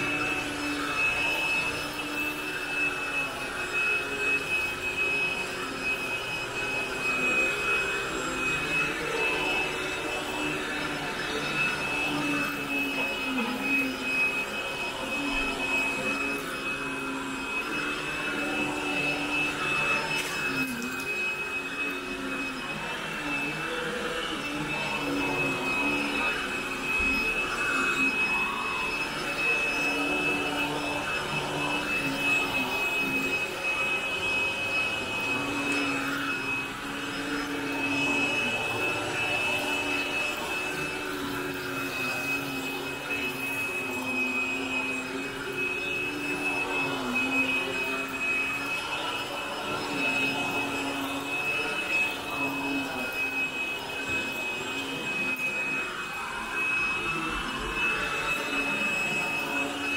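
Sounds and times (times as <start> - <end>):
vacuum cleaner on carpet: 0.0 - 59.9.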